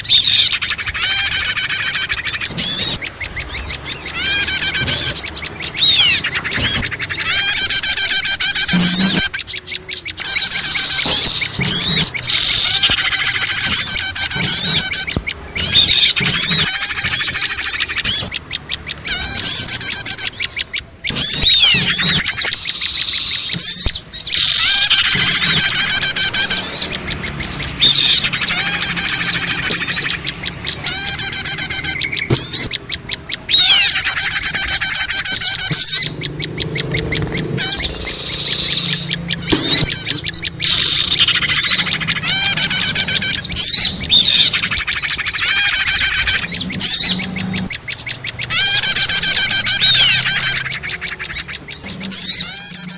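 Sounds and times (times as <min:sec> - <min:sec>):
many songbirds chirping: 0:00.0 - 0:52.9.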